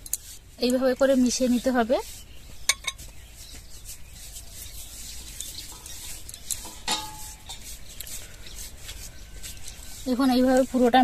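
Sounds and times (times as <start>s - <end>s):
hand rubbing paste on dough: 0.0s - 11.0s.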